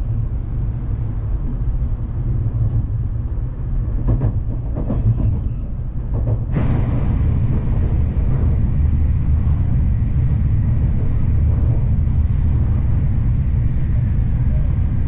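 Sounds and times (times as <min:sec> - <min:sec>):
train rumble heard from inside: 0:00.0 - 0:15.0.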